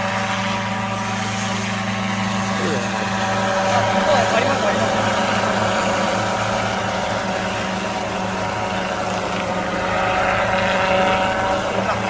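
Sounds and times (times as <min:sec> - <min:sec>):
helicopter humming: 0:00.0 - 0:12.0.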